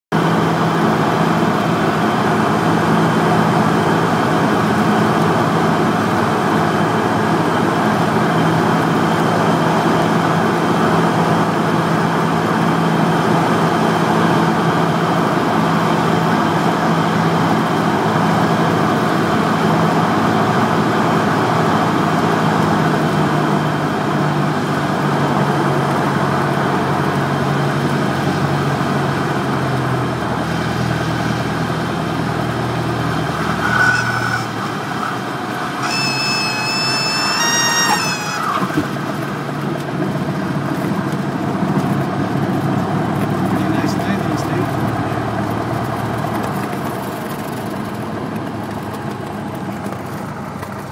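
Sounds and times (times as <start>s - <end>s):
propeller plane engine droning: 0.1s - 50.9s.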